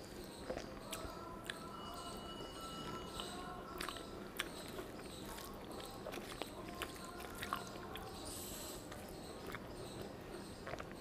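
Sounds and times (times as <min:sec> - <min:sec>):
chewing with wet mouth clicks: 0:00.0 - 0:01.7, 0:02.8 - 0:11.0
fingers mixing rice on a leaf: 0:00.0 - 0:11.0.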